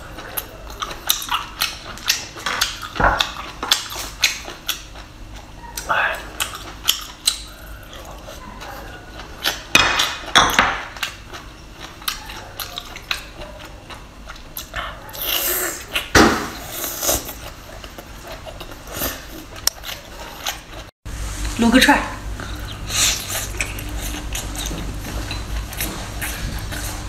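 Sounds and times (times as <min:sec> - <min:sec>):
person chewing wetly: 0:00.0 - 0:20.9, 0:22.4 - 0:27.0.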